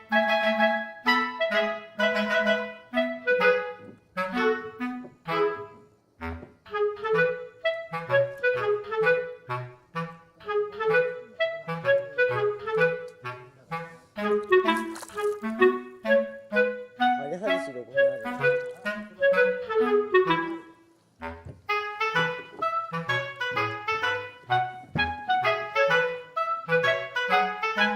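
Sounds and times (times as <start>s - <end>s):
bouncy background music: 0.0s - 27.9s.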